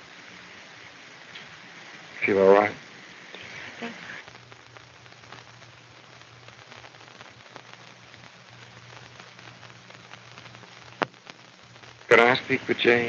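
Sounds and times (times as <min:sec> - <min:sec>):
film soundtrack hiss and crackle: 0:00.0 - 0:13.0.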